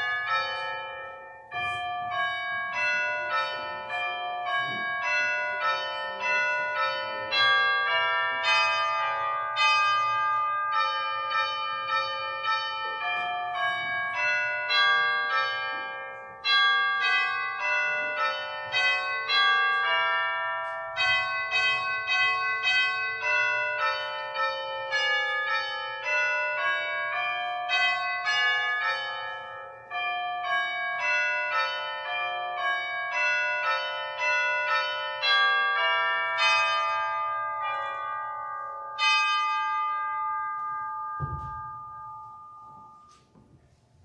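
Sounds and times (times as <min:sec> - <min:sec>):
church bell chimes melody: 0:00.0 - 0:44.0.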